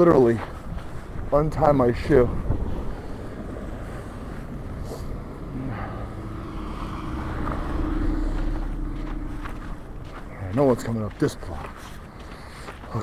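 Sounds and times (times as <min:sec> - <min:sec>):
vehicle engine droning: 0:00.0 - 0:13.0
wind buffeting microphone: 0:00.0 - 0:13.0.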